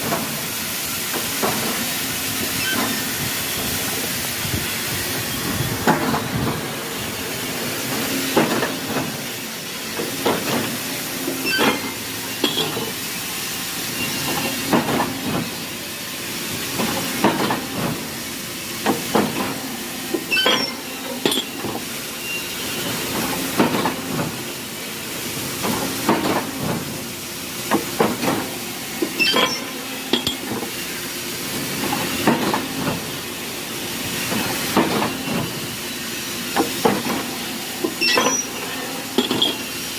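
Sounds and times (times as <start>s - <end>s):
machinery hiss: 0.0s - 39.9s.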